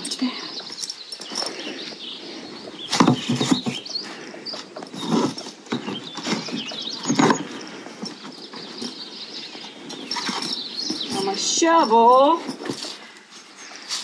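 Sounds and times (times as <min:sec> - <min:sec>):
camping gear knocking and rustling: 0:00.0 - 0:14.0.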